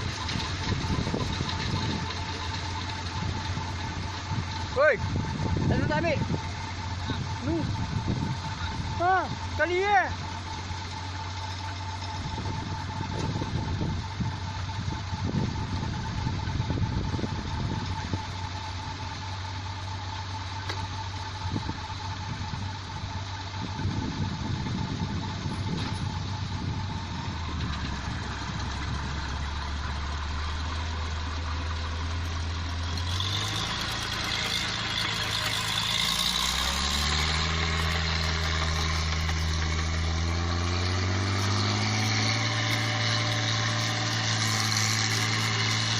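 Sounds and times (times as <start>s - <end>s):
machine engine running: 0.0s - 45.9s.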